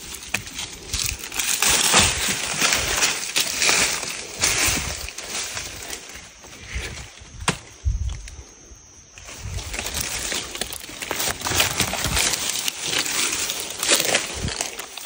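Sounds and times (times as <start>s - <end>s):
footsteps crunching through dry leaves: 0.0s - 8.4s, 9.2s - 15.0s.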